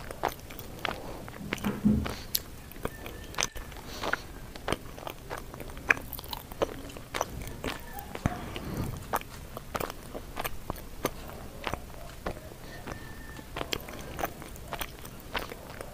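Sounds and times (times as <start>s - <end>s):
person chewing and crunching: 0.0s - 15.9s
wet mouth sounds: 0.0s - 15.9s.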